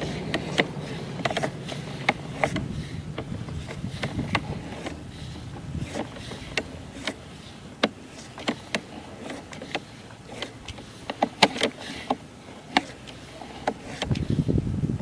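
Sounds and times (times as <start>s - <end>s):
push cable clicking and knocking: 0.0s - 14.6s
low steady hum: 0.0s - 15.0s.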